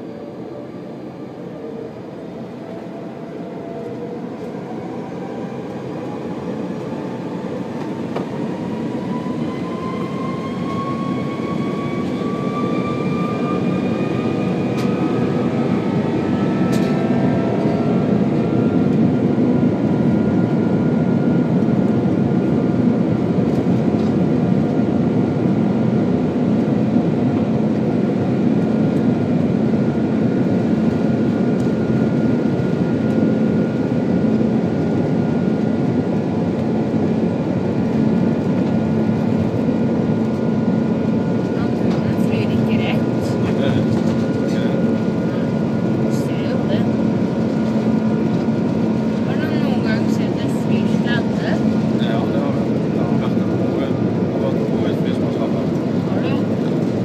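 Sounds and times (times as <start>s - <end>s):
jet engine whine rising: 0.0s - 57.0s.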